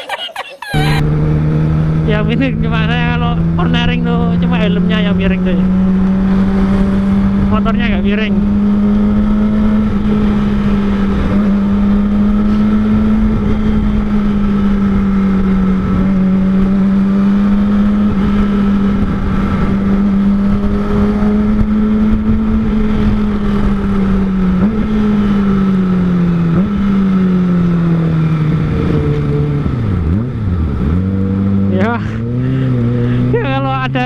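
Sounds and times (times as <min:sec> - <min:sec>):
wind and road rush: 0:00.7 - 0:34.0.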